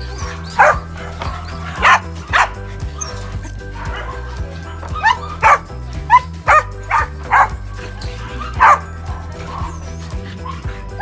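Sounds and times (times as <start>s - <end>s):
background music: 0.0s - 11.0s
dogs barking: 0.0s - 11.0s.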